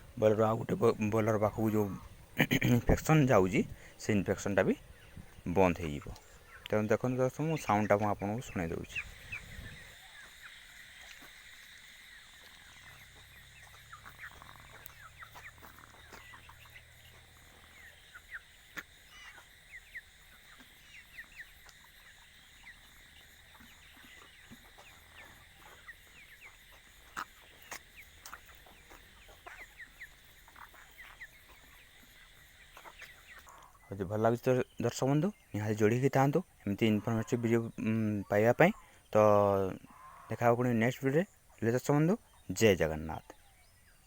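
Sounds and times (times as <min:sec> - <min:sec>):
chickens peeping: 0:00.0 - 0:44.0.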